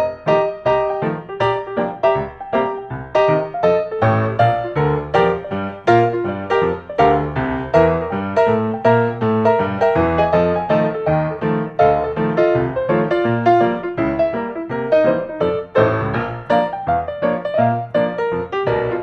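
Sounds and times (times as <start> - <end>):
bouncy piano music: 0.0 - 19.0.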